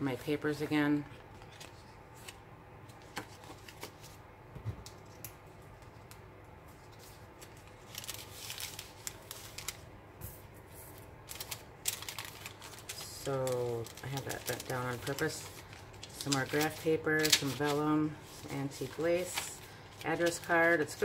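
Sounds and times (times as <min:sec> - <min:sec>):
journal pages turning: 0:01.2 - 0:04.2, 0:05.1 - 0:09.9, 0:11.3 - 0:21.0
paper rustling: 0:01.2 - 0:04.2, 0:05.8 - 0:21.0.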